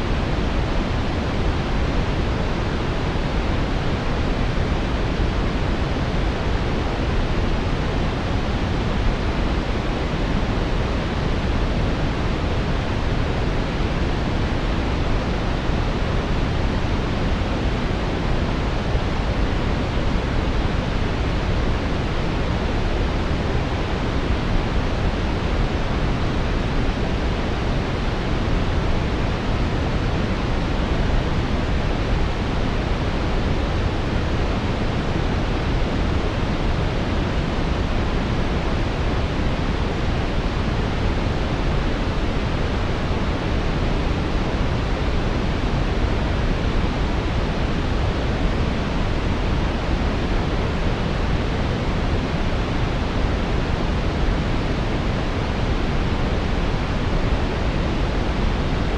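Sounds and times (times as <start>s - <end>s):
brown noise rumbling hiss: 0.0s - 58.9s.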